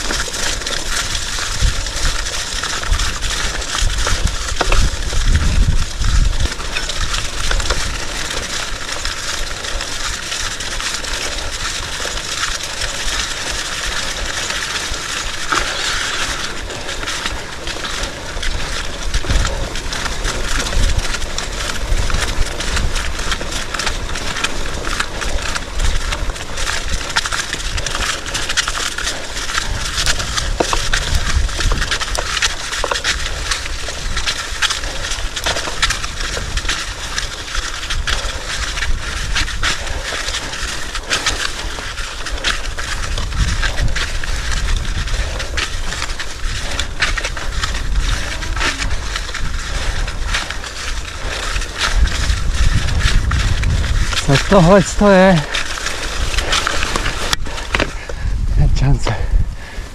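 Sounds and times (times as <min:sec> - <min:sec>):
bike rattling: 0:00.0 - 0:59.9
tyres crunching on muddy trail: 0:00.0 - 0:59.9
wind rumbling on microphone: 0:00.0 - 0:59.9.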